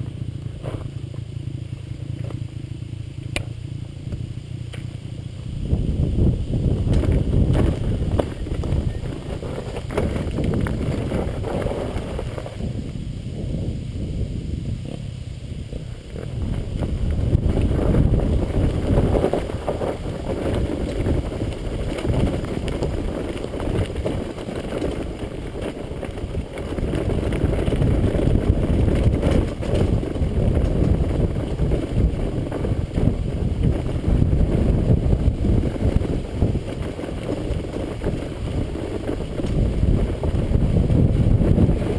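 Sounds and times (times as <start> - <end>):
wind buffeting microphone: 3.8 - 41.9.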